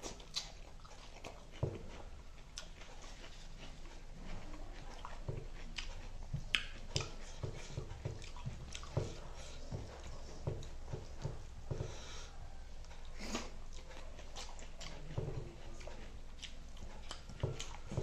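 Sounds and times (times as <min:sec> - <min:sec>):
person chewing and lip-smacking: 0:00.0 - 0:18.0.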